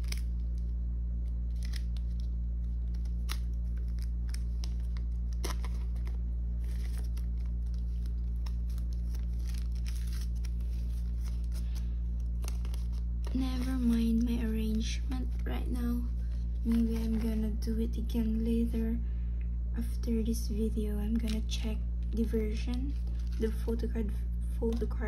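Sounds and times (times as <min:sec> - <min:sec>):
plastic sleeves rustling: 0:00.0 - 0:17.7, 0:21.1 - 0:24.0
low hum: 0:00.0 - 0:25.0.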